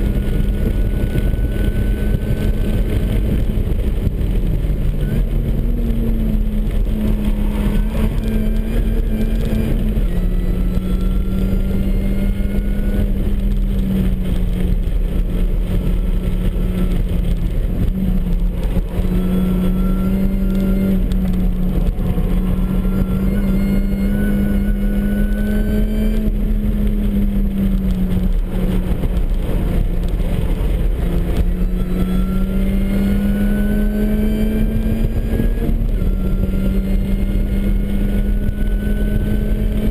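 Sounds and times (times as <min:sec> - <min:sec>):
car engine revving: 0:00.0 - 0:39.9
supercharger whine: 0:00.0 - 0:39.9.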